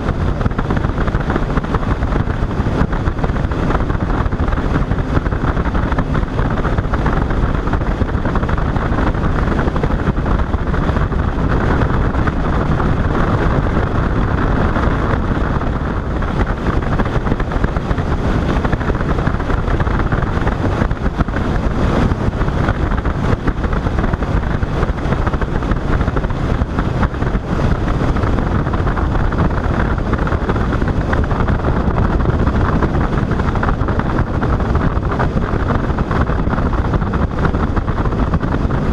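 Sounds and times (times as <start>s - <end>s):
boat running at speed: 0.0s - 38.9s.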